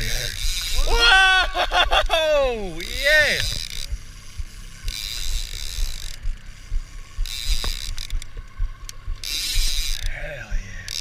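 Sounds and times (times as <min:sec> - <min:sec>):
fishing reel whirring and ratcheting: 0:00.0 - 0:11.0.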